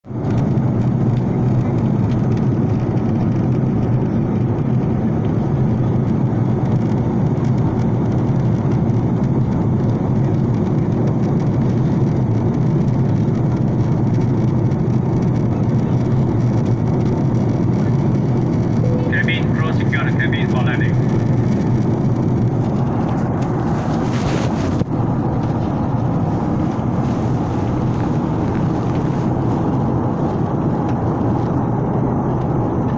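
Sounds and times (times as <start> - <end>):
airplane cabin drone: 0.1 - 32.9.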